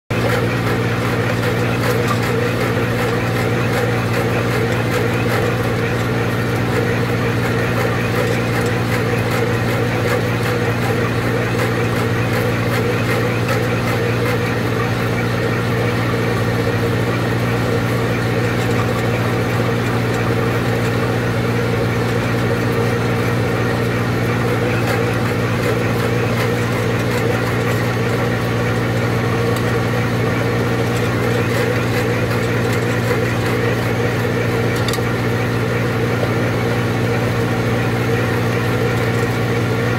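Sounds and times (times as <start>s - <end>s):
tractor engine droning: 0.1s - 39.9s.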